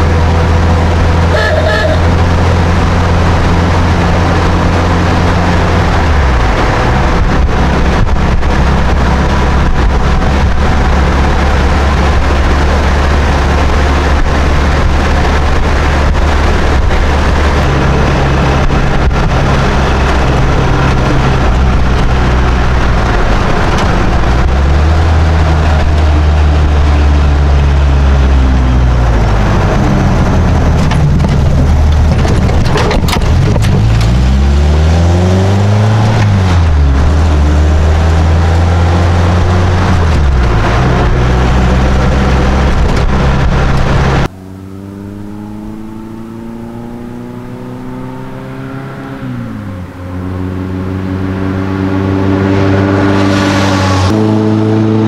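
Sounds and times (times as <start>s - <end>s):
car approaching and accelerating: 0.0s - 55.0s
car engine from inside cab: 0.0s - 55.0s.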